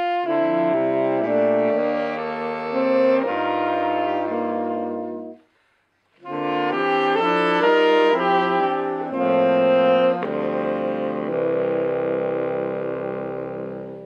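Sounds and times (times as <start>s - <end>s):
saxophone quartet playing chords: 0.0s - 14.0s.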